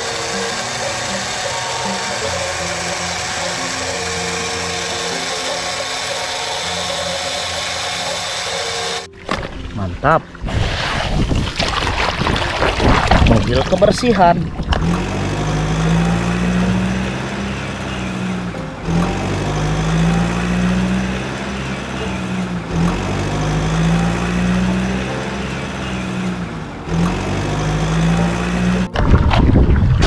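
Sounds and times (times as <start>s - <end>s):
truck engine running: 0.0s - 10.2s, 14.5s - 29.1s.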